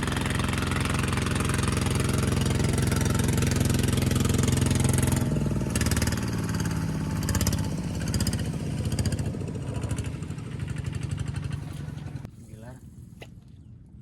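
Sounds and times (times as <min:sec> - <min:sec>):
small engine running: 0:00.0 - 0:12.3.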